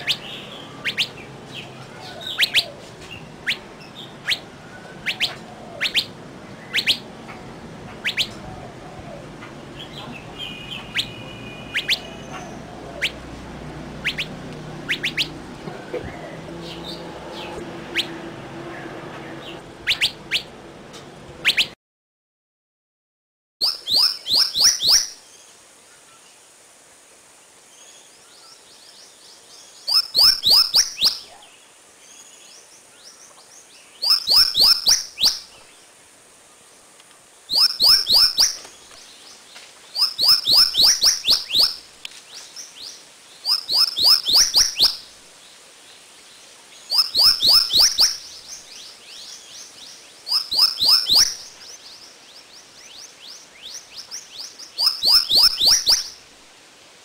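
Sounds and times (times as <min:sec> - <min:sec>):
songbird singing: 0:00.0 - 0:21.8, 0:23.6 - 0:26.7, 0:27.3 - 0:57.0.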